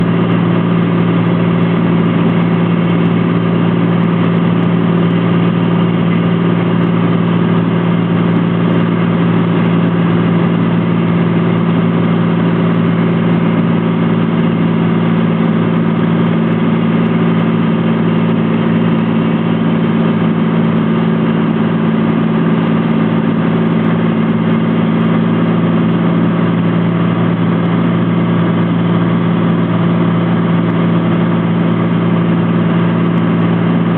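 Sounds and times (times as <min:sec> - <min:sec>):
airplane engine and propeller drone: 0:00.0 - 0:33.9.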